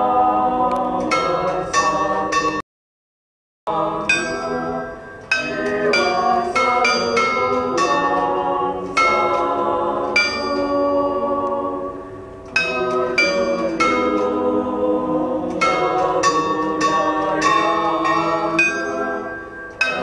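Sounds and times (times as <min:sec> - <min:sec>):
bells ringing a melody: 0:01.0 - 0:02.6, 0:03.8 - 0:14.8, 0:15.4 - 0:20.0.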